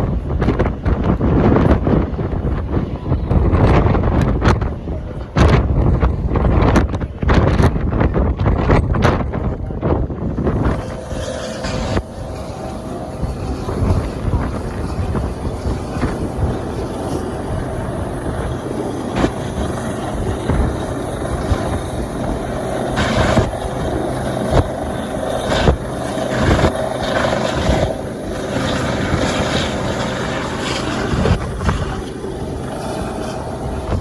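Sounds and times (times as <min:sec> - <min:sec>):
helicopter rotor and engine: 0:00.0 - 0:34.0
wind buffeting microphone: 0:00.0 - 0:34.0.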